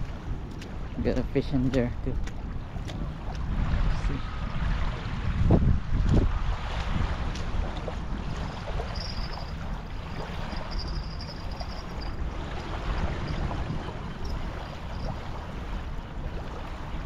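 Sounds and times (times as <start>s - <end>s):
small waves lapping: 0.0s - 17.0s
wind buffeting microphone: 0.0s - 17.0s.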